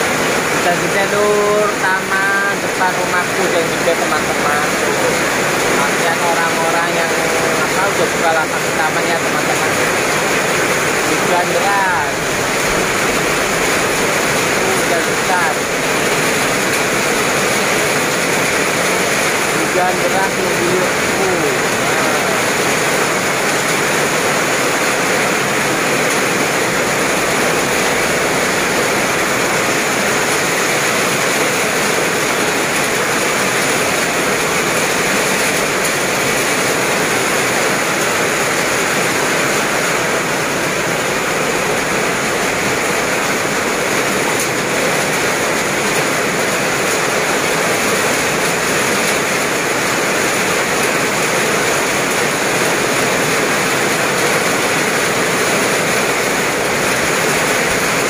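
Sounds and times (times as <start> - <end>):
heavy rain on wet pavement: 0.0 - 58.0.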